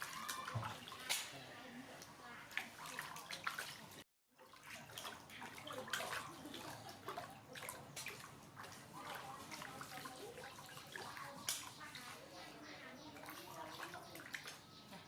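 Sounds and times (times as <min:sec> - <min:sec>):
bath water splashing: 0:00.0 - 0:12.5
water dripping: 0:00.0 - 0:15.0.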